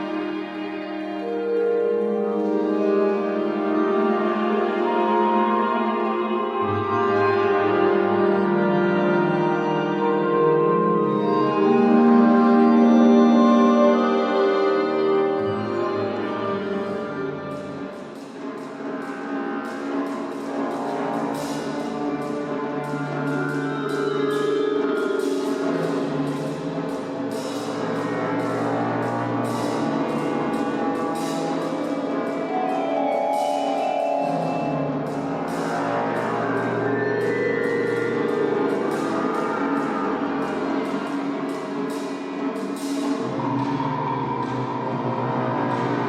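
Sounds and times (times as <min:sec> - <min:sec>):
rapid repeated percussion strikes: 0:00.0 - 0:09.8, 0:11.5 - 0:46.0.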